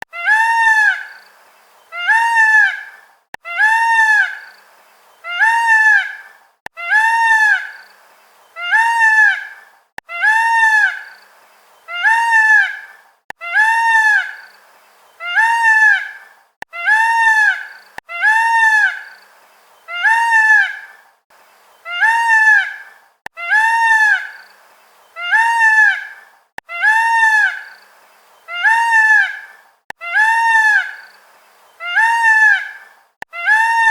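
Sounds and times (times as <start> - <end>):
peacock calling: 1.8 - 11.2, 11.8 - 14.5, 15.1 - 19.2, 19.8 - 21.0, 21.7 - 27.8, 28.4 - 33.9.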